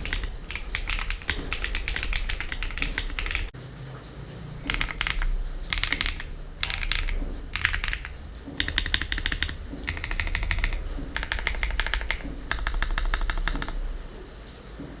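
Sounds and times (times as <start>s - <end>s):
fast keyboard typing: 0.0s - 3.6s, 4.6s - 14.3s.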